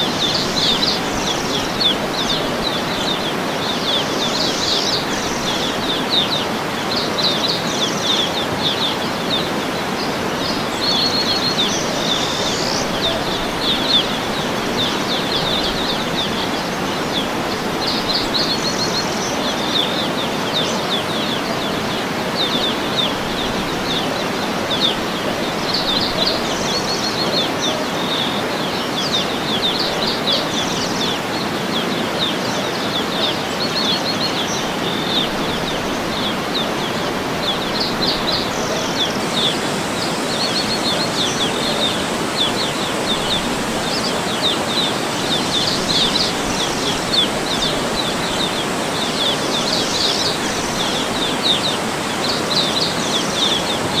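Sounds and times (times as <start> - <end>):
small birds chirping: 0.0 - 54.0
waterfall rushing: 0.0 - 54.0.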